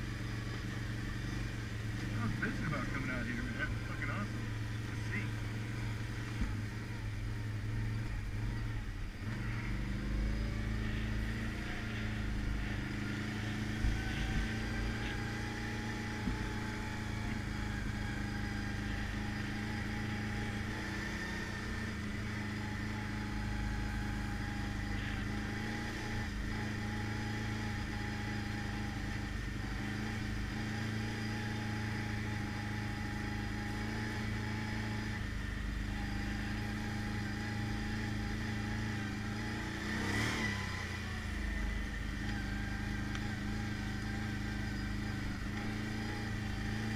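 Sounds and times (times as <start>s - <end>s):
atv engine running: 0.0s - 46.9s.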